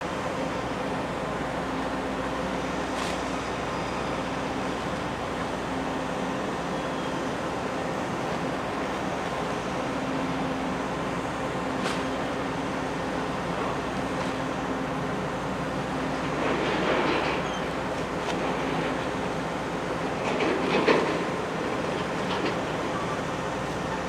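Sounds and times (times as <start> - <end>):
ferry engine humming: 0.0 - 24.0
wind: 0.0 - 24.0.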